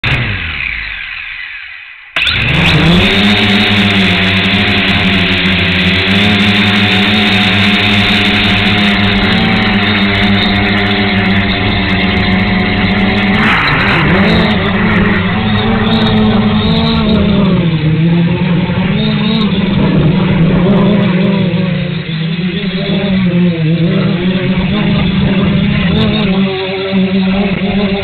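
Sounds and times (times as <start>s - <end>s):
drone propellers humming: 0.0s - 28.0s
loud sound: 2.2s - 25.8s.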